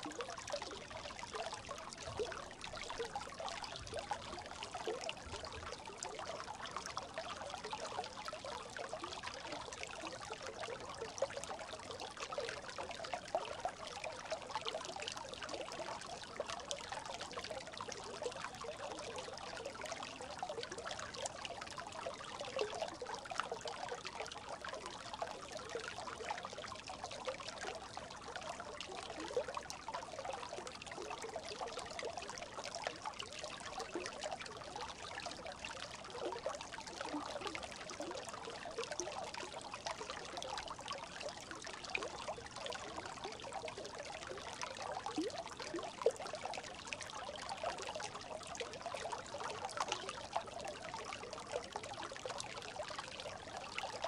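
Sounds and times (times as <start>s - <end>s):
brook babbling: 0.0s - 54.0s.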